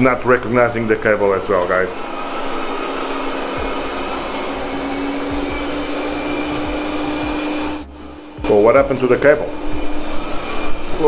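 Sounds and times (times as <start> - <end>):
steady hum: 0.0 - 11.0
robot vacuum suction noise: 1.5 - 11.0.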